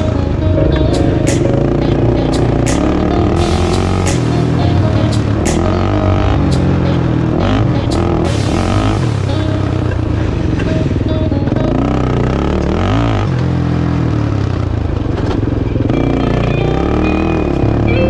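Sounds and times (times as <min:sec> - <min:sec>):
background music: 0:00.0 - 0:13.3, 0:15.7 - 0:18.0
motorcycle engine revving: 0:00.0 - 0:18.0.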